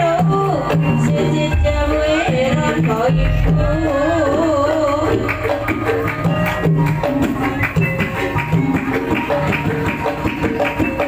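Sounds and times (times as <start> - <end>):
hand drum beats: 0.0 - 11.0
gamelan struck notes: 0.1 - 11.0.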